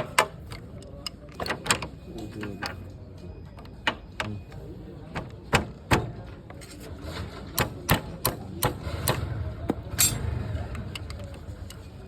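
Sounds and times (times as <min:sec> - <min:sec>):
sharp clicks and knocks: 0:00.0 - 0:02.8, 0:05.1 - 0:12.0.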